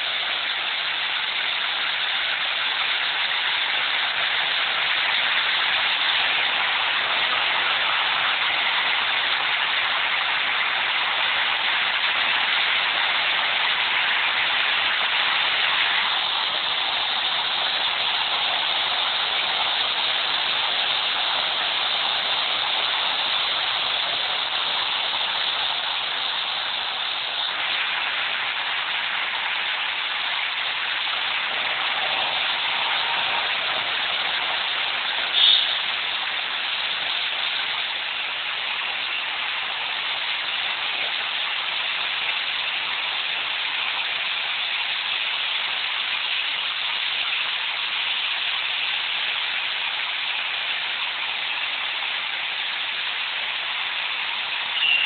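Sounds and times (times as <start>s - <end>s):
waterfall splashing over rocks: 0.0s - 55.0s.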